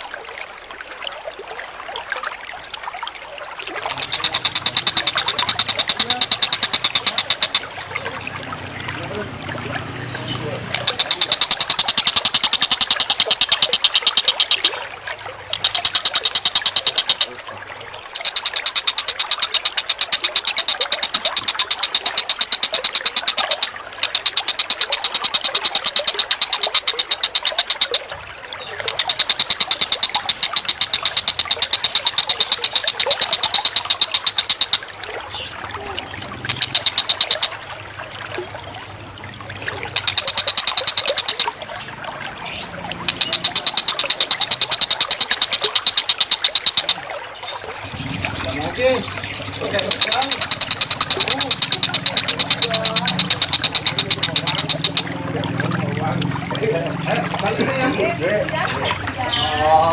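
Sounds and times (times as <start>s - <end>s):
running water: 0.0s - 59.9s
bird rattling high calls: 3.9s - 8.3s, 10.1s - 17.4s, 18.0s - 55.2s.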